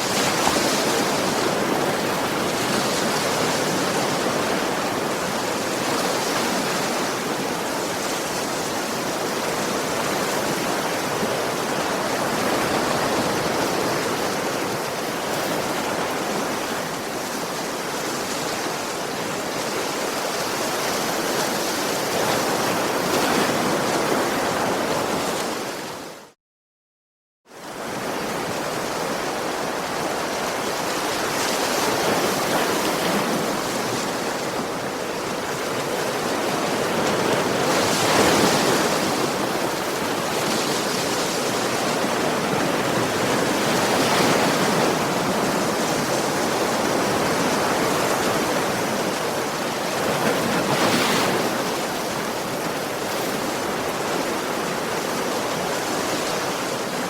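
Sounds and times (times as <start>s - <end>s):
sea waves breaking on beach: 0.0s - 26.4s, 27.6s - 57.0s.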